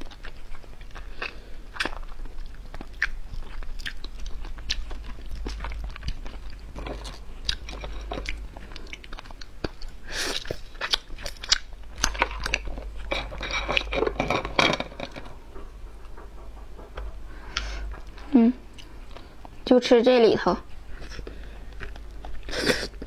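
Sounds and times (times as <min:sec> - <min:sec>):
chewing and crunching shell: 0:00.0 - 0:19.7, 0:20.7 - 0:23.0.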